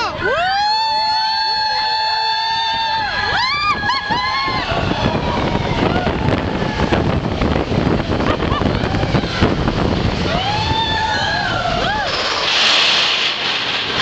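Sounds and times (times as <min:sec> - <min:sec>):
riders whooping: 0:00.0 - 0:14.0
roller coaster rumble and rattle: 0:01.0 - 0:14.0
wind rushing past microphone: 0:01.8 - 0:14.0.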